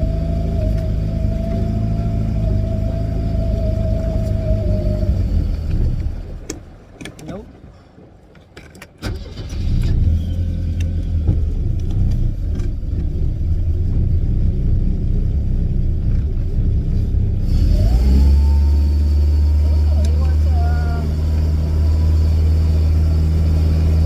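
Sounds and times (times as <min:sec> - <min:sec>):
boat engine starting and running: 0:00.0 - 0:24.0.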